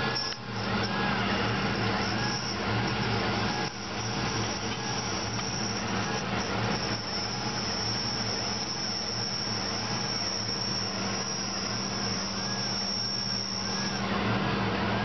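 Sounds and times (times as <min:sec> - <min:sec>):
high spindle whine: 0:00.0 - 0:15.0
machine low hum: 0:00.0 - 0:15.0.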